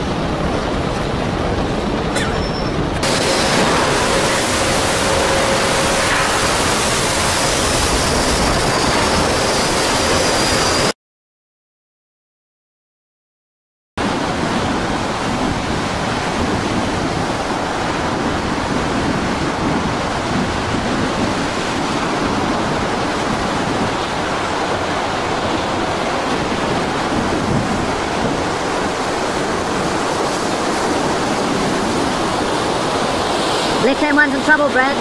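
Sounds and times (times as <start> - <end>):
storm surf crashing: 0.0 - 10.9, 14.0 - 35.0
wind: 0.0 - 10.9, 14.0 - 35.0.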